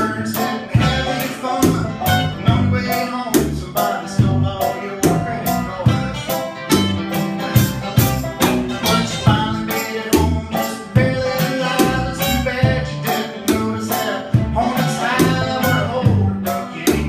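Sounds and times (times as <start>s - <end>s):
man singing: 0.0s - 6.6s, 8.7s - 17.0s
bass guitar: 0.0s - 17.0s
cajon beat: 0.0s - 17.0s
electric guitar: 0.0s - 17.0s.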